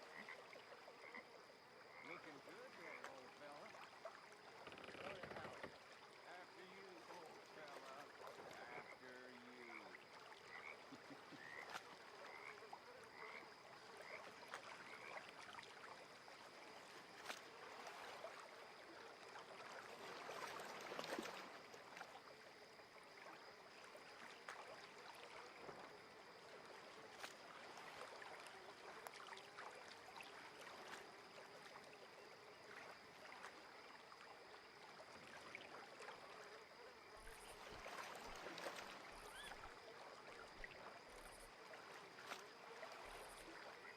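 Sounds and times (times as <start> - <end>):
water lapping at shore: 0.0 - 43.9.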